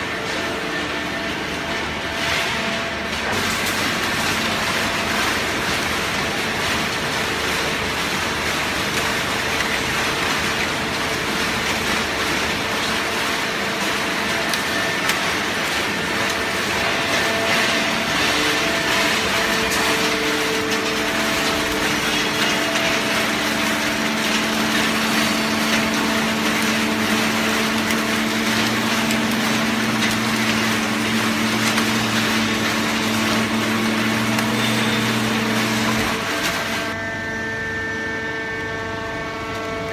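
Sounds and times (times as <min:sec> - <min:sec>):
baler machine drone: 0:00.0 - 0:39.9.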